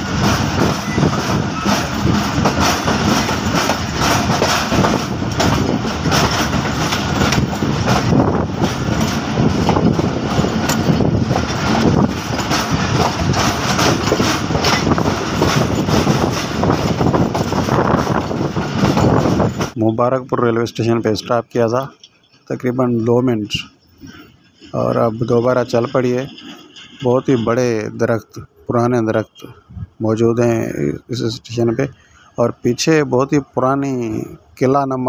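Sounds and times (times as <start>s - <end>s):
train wheels rumbling and rattling: 0.0s - 35.0s.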